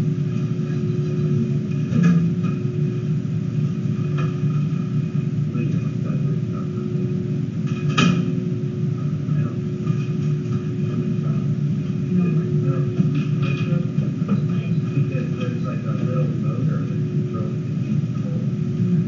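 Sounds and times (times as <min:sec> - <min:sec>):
room machinery humming: 0:00.0 - 0:19.0.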